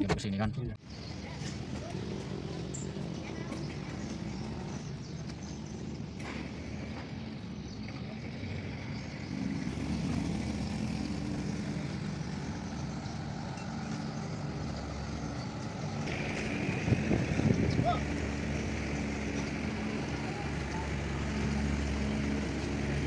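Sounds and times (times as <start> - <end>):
engine humming: 0.8 - 23.0.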